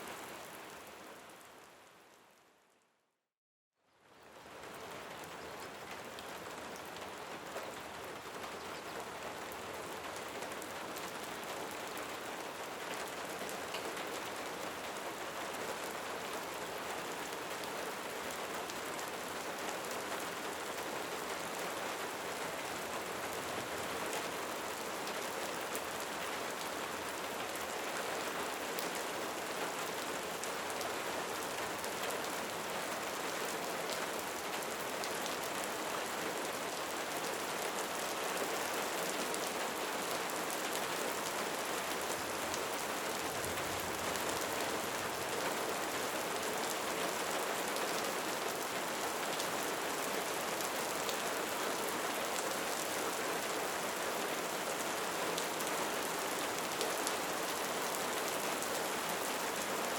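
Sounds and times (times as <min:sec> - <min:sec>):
steady rain hiss: 0:04.0 - 0:59.9.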